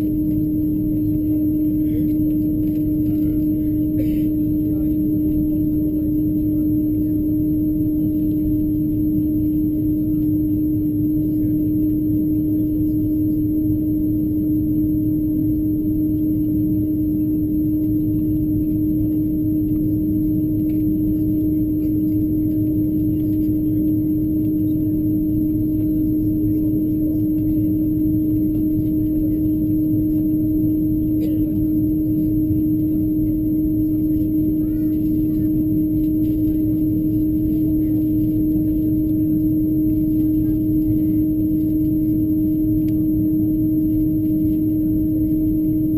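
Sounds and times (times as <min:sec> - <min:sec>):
jet engines idling drone: 0:00.0 - 0:45.9.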